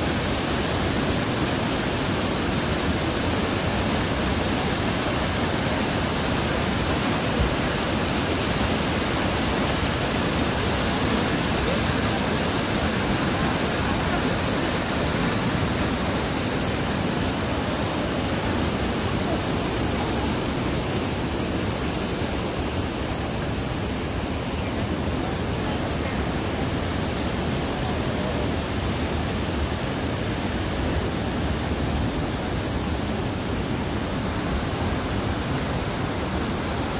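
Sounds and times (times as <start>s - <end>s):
water rushing over rocks: 0.0s - 36.9s.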